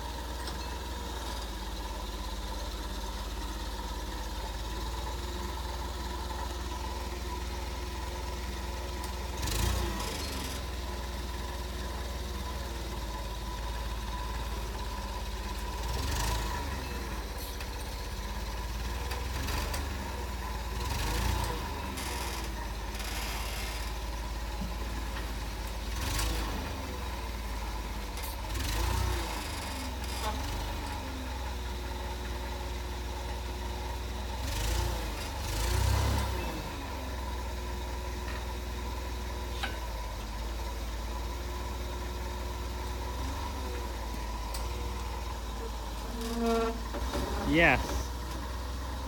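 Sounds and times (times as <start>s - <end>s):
forklift engine revving: 8.3s - 39.5s, 40.2s - 49.0s.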